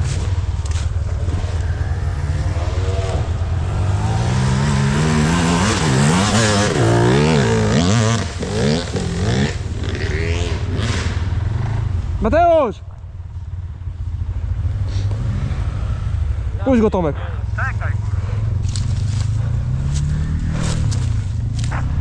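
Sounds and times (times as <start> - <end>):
steady low rumble: 0.0 - 7.2, 10.6 - 22.0
atv engine revving: 0.0 - 12.3, 13.3 - 22.0.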